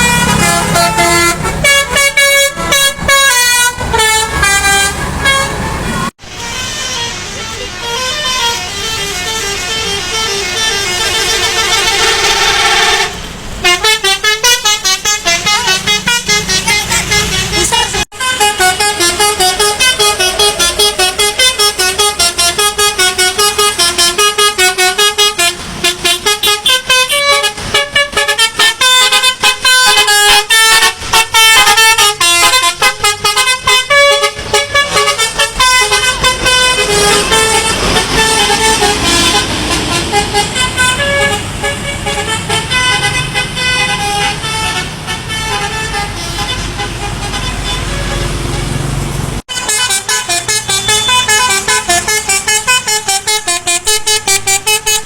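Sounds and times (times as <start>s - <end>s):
bus multi-tone horn tooting: 0.0s - 55.0s.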